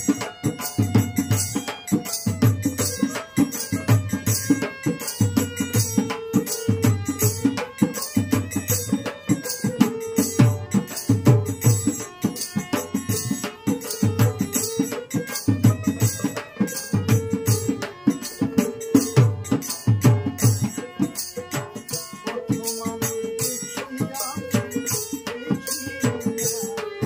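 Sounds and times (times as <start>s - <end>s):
harmonium melody: 0.0s - 27.0s.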